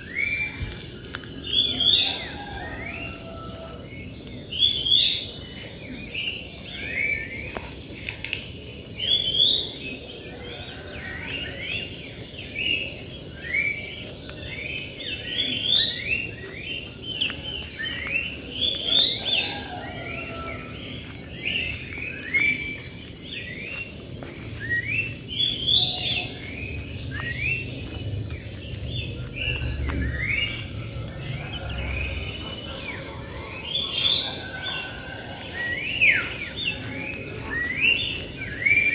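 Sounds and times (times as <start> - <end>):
birds chirping: 0.0 - 38.9
high insect drone: 0.0 - 38.9.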